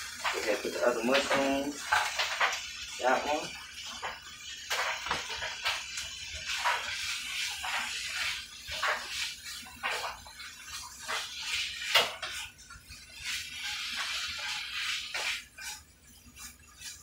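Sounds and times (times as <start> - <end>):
steak sizzling in a skillet: 0.0 - 17.0.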